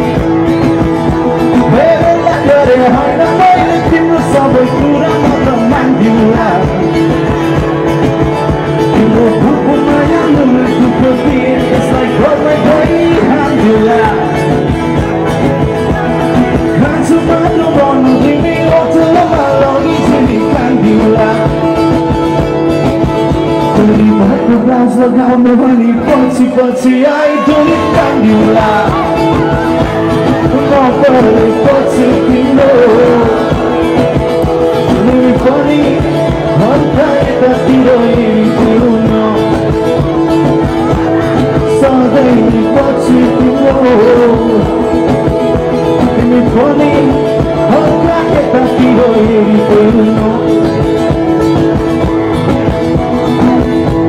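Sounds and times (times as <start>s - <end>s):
live rock band playing: 0.0s - 54.0s
man singing: 0.0s - 54.0s.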